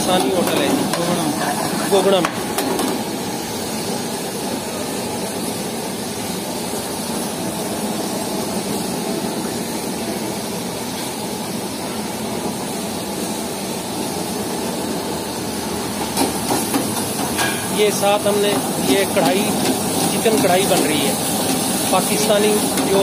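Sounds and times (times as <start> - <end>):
gas burners roaring: 0.0 - 23.0.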